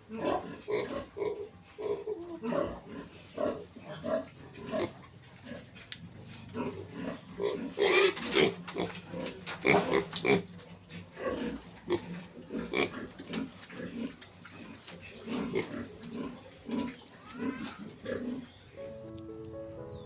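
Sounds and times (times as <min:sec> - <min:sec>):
pigs grunting and squealing: 0:00.0 - 0:18.7.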